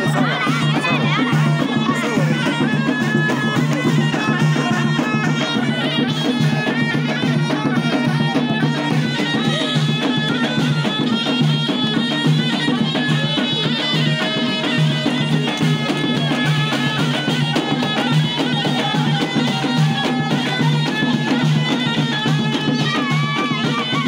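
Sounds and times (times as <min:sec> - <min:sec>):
frame drum beats: 0:00.0 - 0:24.0
shrill reed wind instrument melody: 0:00.0 - 0:24.0.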